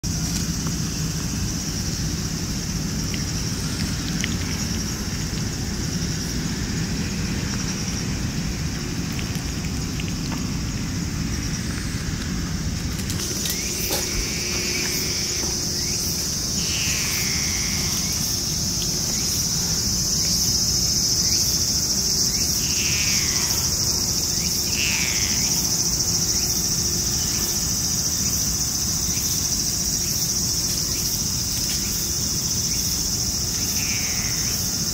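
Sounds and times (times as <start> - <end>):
insects chorus: 0.0 - 34.9.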